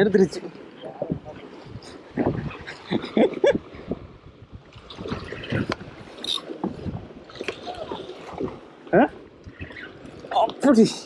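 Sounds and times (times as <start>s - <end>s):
water slapping hull: 0.0s - 11.0s
wind on microphone: 0.8s - 10.4s.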